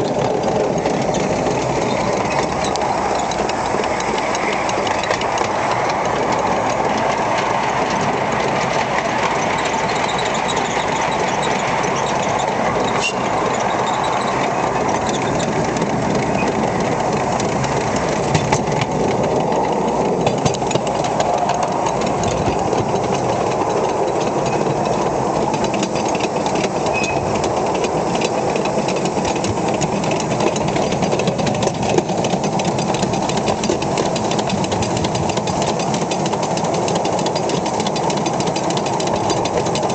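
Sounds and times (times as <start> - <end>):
steam locomotive exhaust and wheels clatter: 0.0 - 39.9.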